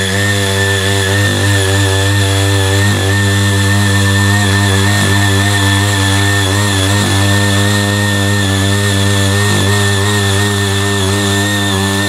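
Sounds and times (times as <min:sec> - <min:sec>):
rotary tines tilling soil: 0:00.0 - 0:12.0
small engine running under load: 0:00.0 - 0:12.0.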